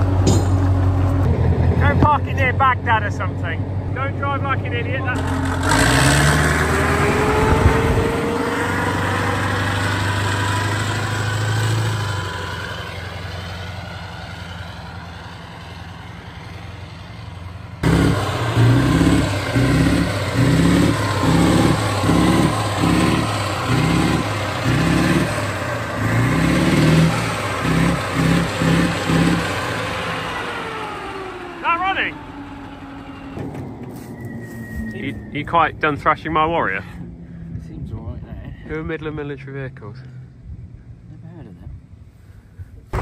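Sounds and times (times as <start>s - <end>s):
vehicle engine revving: 0.0s - 41.9s.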